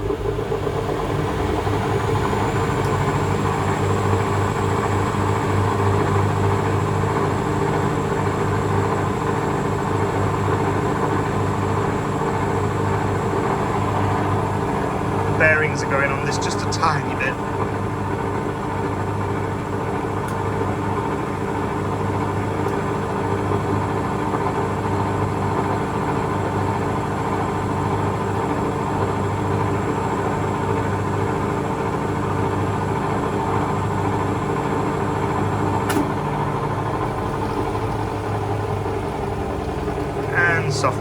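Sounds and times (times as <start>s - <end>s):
washing machine spinning: 0.0s - 41.0s.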